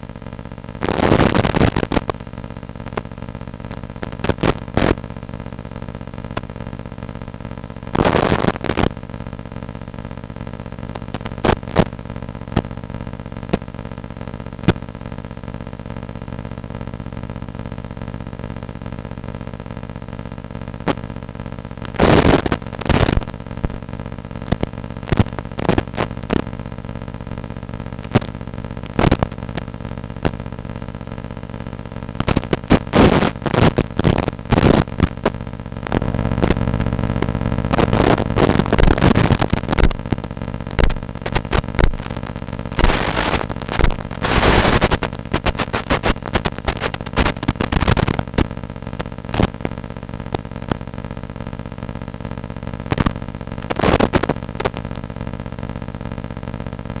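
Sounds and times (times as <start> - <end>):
droning hum: 0.0 - 57.0.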